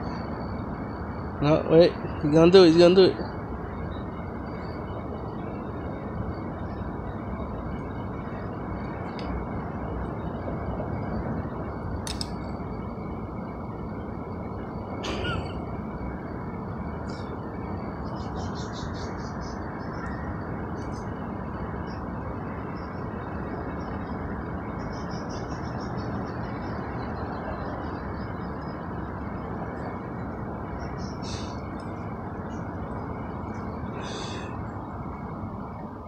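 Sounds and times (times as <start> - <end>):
low traffic rumble: 0.0 - 36.0.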